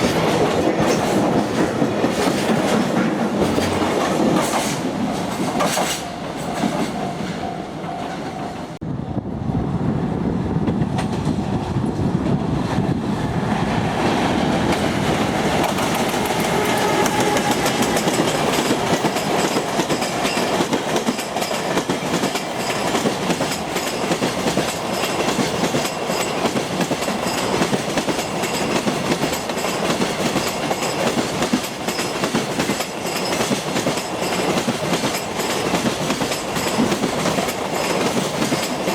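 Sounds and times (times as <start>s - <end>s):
wagon wheels clacking over rail joints: 0.0s - 7.1s, 14.6s - 38.9s
freight train passing: 0.0s - 38.9s.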